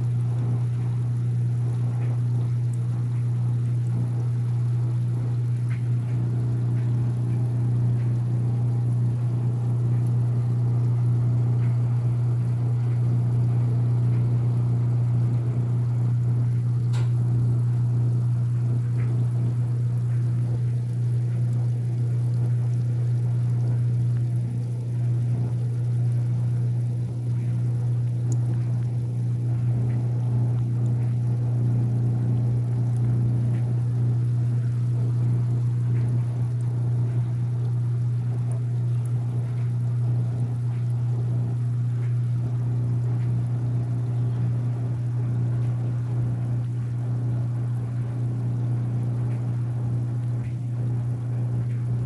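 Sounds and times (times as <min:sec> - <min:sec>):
pond pump humming: 0:00.0 - 0:52.0
water bubbling: 0:00.0 - 0:52.0.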